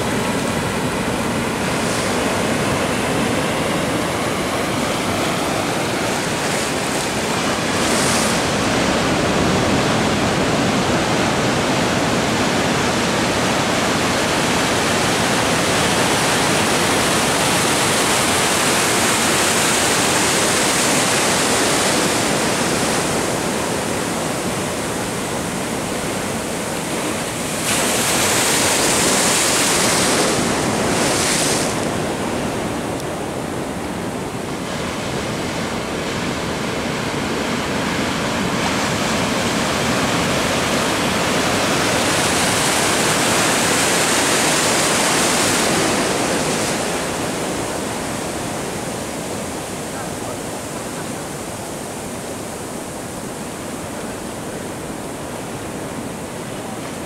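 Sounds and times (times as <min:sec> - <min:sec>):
sea water washing around pilings: 0:00.0 - 0:57.0.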